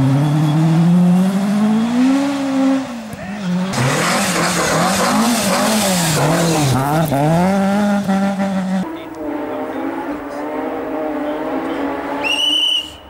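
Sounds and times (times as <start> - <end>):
rally car engine revving: 0.0 - 12.6.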